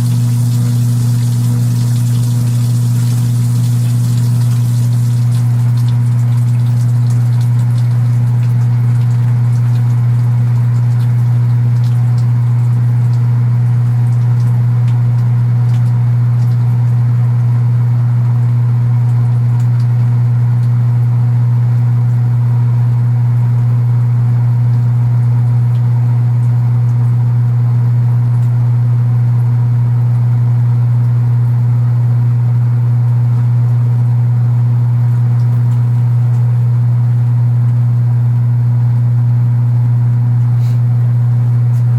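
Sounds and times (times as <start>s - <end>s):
washing machine buzzing: 0.0s - 41.9s.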